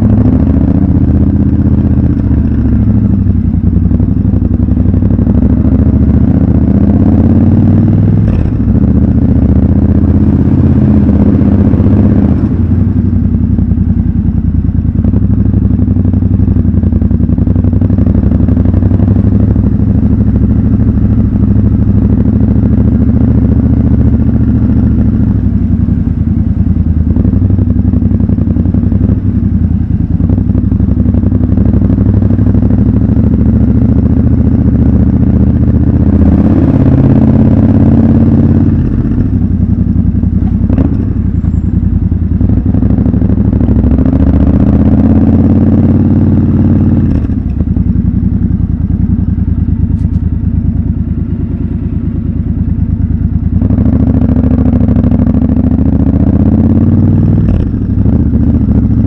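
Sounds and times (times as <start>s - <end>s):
motorcycle engine at low revs: 0.0s - 59.0s.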